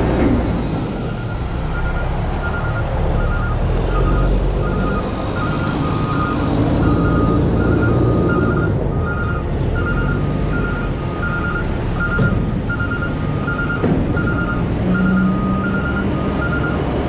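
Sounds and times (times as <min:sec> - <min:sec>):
engine rumbling: 0:00.0 - 0:17.0
reversing alarm beeping: 0:00.9 - 0:16.9.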